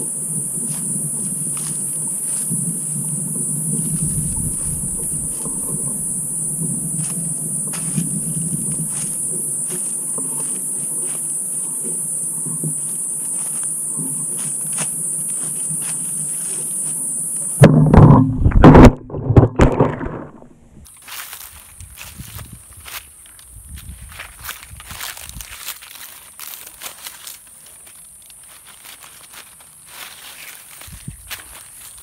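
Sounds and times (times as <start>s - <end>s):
shrill insect chorus: 0.0s - 17.6s, 20.9s - 32.0s.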